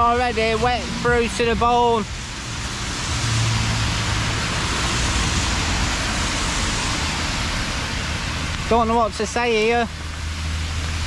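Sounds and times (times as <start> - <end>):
cars passing on wet road: 0.0 - 11.0
heavy rain falling: 0.0 - 11.0.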